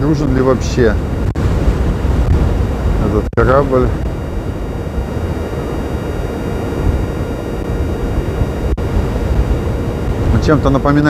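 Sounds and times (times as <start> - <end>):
wind: 0.0 - 11.0
surf on beach: 0.1 - 11.0.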